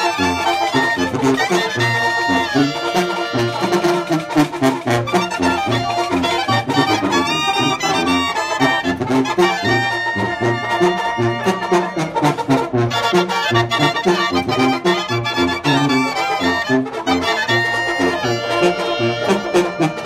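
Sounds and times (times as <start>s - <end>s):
brass band playing: 0.0s - 20.0s
clarinets and trumpet melody: 0.0s - 20.0s
percussion strokes: 0.0s - 20.0s.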